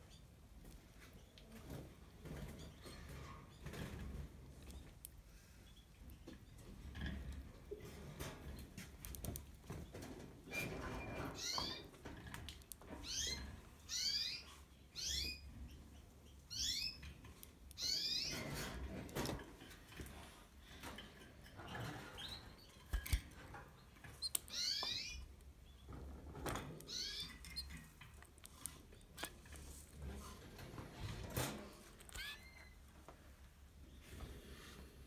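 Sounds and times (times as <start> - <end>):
canary chirping: 0.0 - 33.0.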